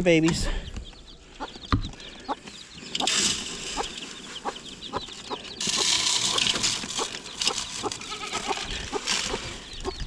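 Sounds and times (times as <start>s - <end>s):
chicks peeping: 0.1s - 10.0s
hen clucking: 0.9s - 10.0s.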